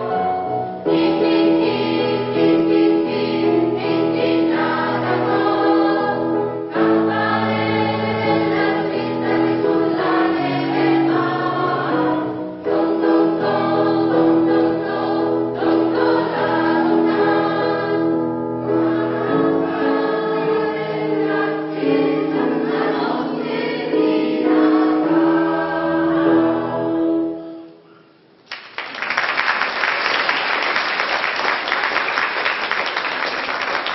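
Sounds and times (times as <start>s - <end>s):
choir singing: 0.0s - 27.6s.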